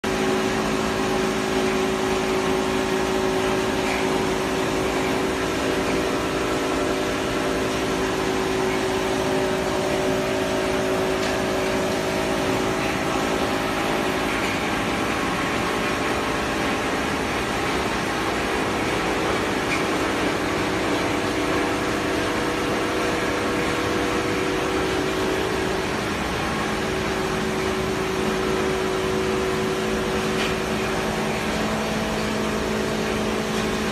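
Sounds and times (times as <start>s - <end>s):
machine motors humming: 0.1s - 33.9s.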